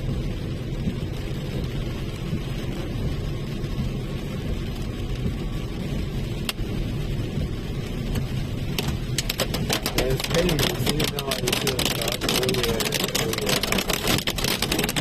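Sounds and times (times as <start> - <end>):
car cabin road rumble: 0.0 - 15.0
rain or hail hitting car: 0.0 - 15.0.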